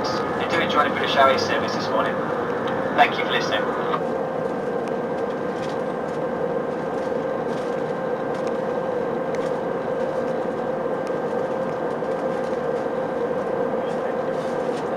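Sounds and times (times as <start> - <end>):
airplane cabin noise: 0.0 - 14.9.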